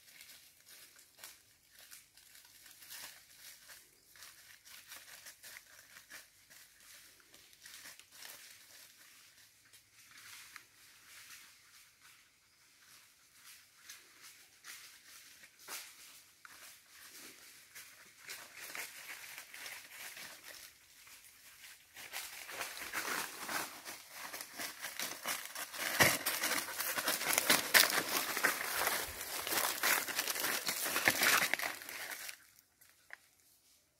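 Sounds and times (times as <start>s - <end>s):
footsteps crunching through dry leaves: 0.0s - 33.2s.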